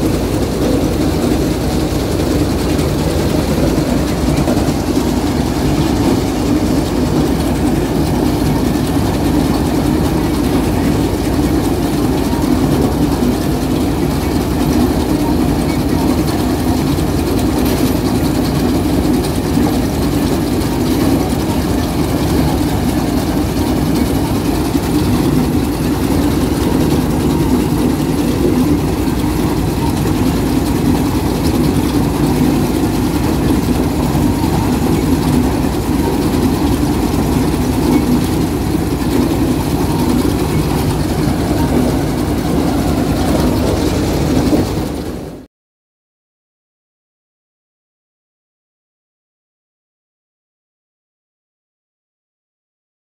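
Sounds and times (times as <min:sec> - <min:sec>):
diesel engine droning: 0:00.0 - 0:45.5.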